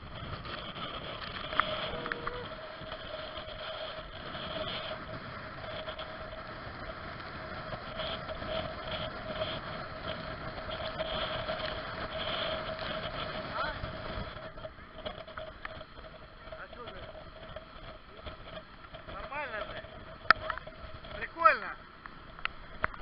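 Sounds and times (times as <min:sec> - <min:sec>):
muffled motorboat engine: 0:00.0 - 0:23.0
rushing water and wind: 0:00.0 - 0:23.0.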